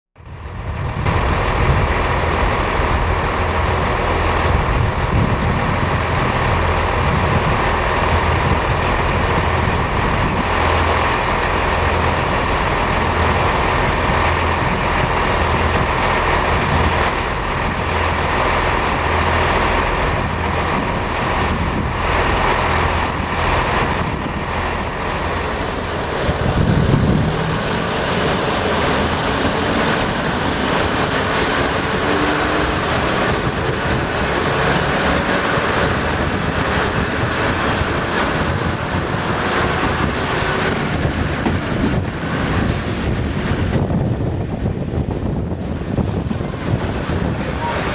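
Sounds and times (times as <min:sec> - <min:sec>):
diesel engines droning: 0:00.2 - 0:47.9.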